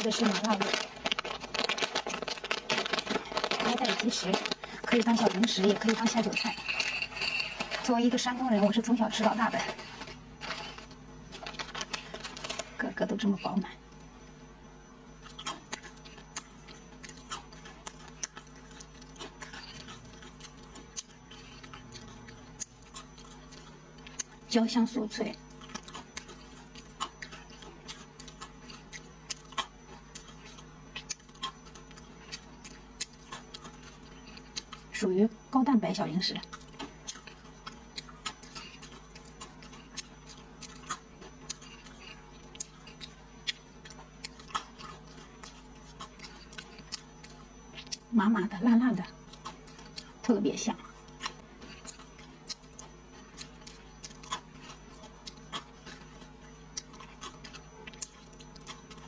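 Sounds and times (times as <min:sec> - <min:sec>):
crunchy food being chewed: 0:00.0 - 0:14.4, 0:15.0 - 0:48.2, 0:48.9 - 0:59.0.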